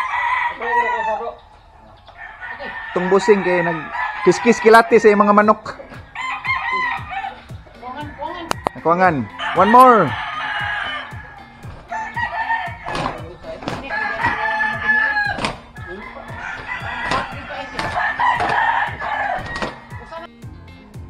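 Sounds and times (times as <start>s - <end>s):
roosters crowing: 0.0s - 20.4s.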